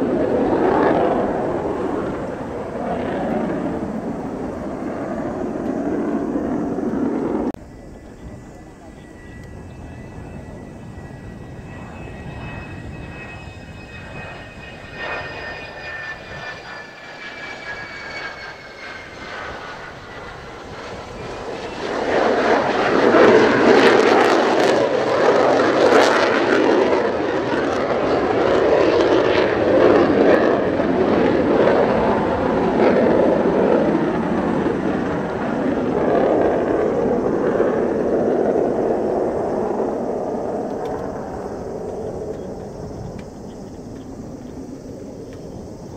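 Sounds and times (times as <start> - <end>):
jet engine whine: 0.0 - 45.9
jet roar: 0.0 - 45.9.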